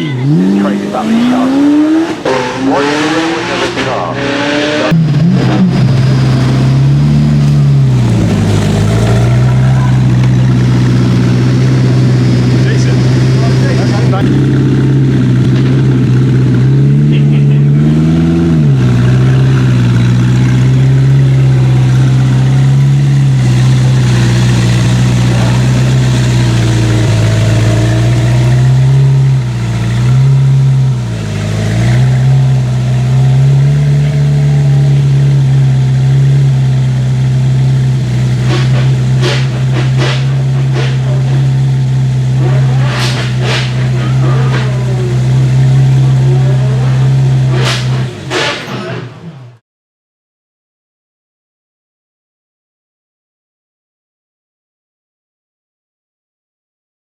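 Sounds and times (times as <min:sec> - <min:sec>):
car engine running: 0:00.0 - 0:49.6.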